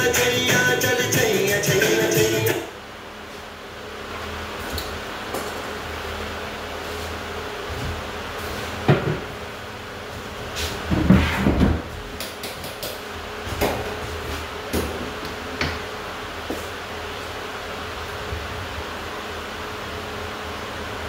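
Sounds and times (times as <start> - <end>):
ceiling fan humming: 0.0 - 21.0.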